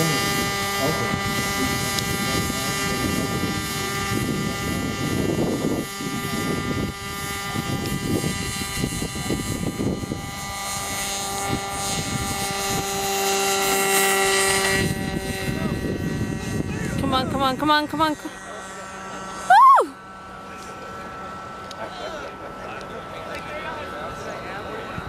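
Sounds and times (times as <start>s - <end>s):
model airplane engine: 0.0s - 25.0s.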